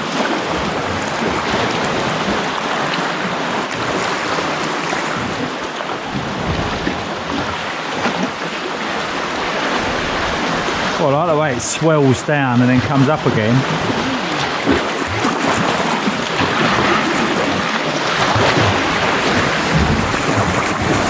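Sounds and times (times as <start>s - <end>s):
sea water sloshing around kayak: 0.0s - 21.0s.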